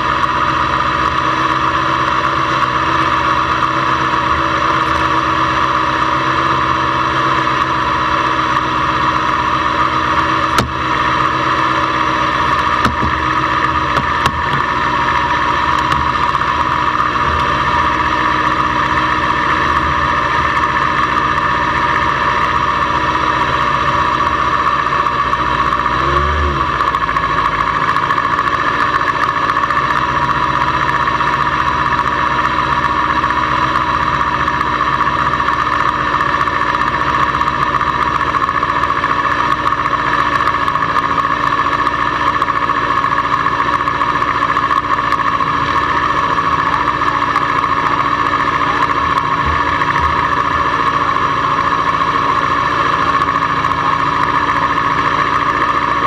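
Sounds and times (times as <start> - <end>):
motorcycle engine idling: 0.0 - 25.9, 26.6 - 56.0.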